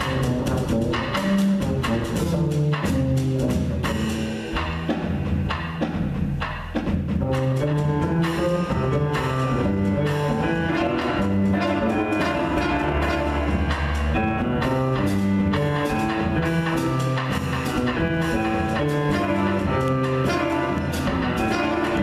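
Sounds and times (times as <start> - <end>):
drum kit with cymbal strokes: 0.0 - 22.0
jazz melody instruments: 0.0 - 22.0
walking bass line: 0.0 - 22.0.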